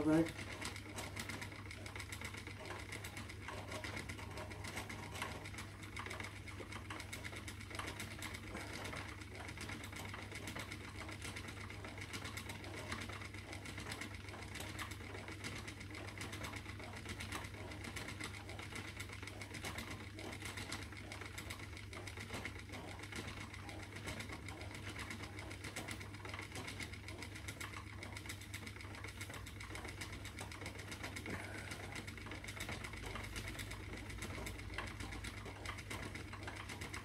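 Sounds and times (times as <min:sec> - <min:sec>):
spinning wheel whirring: 0:00.0 - 0:37.0.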